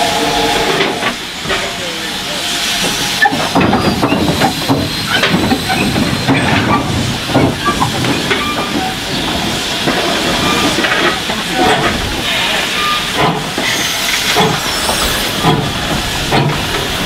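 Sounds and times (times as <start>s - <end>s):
steam hissing: 0.0s - 17.0s
wagon wheels and couplings clanking: 2.9s - 17.0s.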